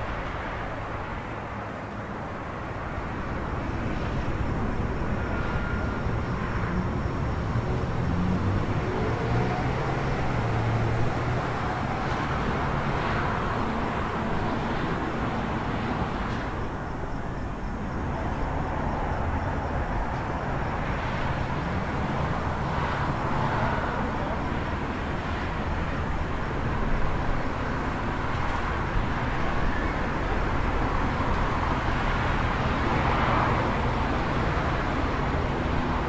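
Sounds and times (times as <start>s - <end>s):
distant traffic hum: 0.0s - 36.0s.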